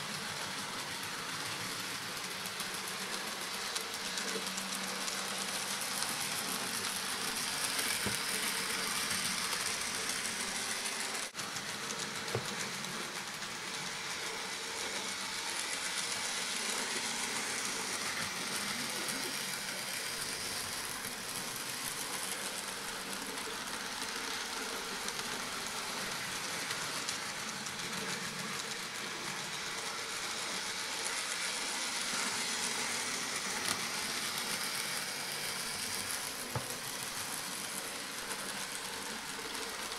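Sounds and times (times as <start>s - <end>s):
model train wheels rolling on track: 0.0s - 39.9s
small electric motors whirring: 0.0s - 39.9s.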